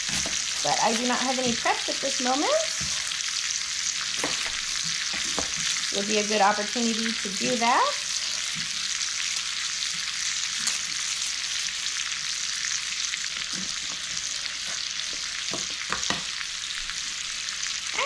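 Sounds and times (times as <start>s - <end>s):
sausage sizzling in grease: 0.0s - 18.0s.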